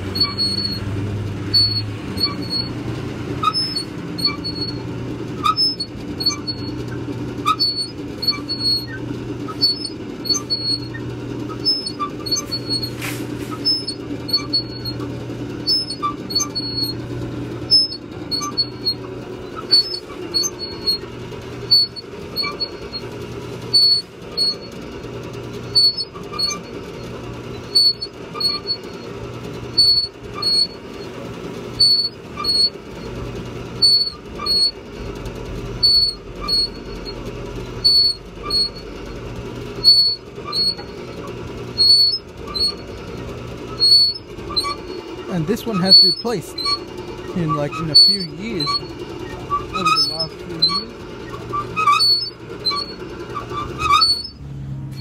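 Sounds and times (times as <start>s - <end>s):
mechanism squeaks and clicks: 0.0s - 55.0s
ride motor hum: 0.0s - 55.0s.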